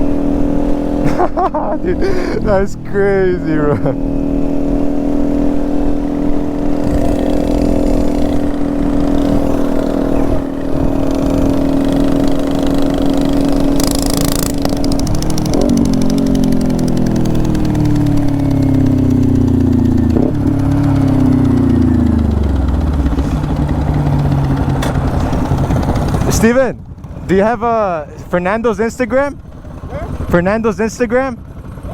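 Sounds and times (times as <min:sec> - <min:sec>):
small motorbike engine: 0:00.0 - 0:31.9.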